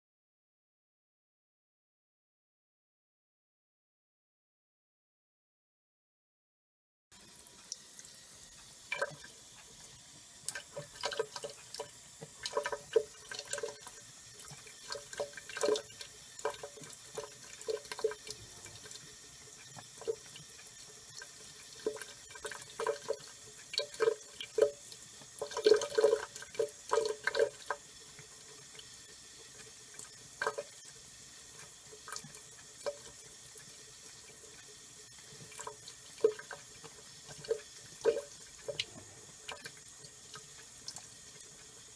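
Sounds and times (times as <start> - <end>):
tap running thin stream: 7.2 - 41.9
cat lapping water: 7.7 - 41.9.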